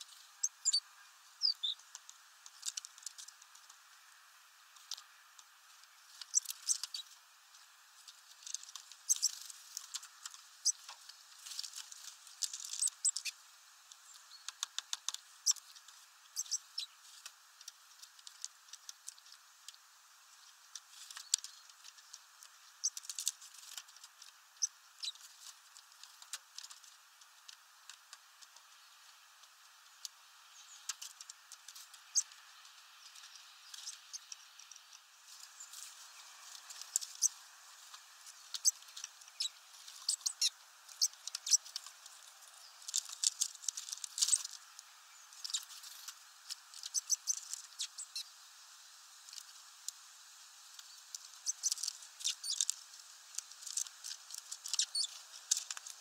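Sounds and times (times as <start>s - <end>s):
birds pecking at seeds: 0.0s - 56.0s
wings fluttering: 1.4s - 48.3s, 50.6s - 56.0s.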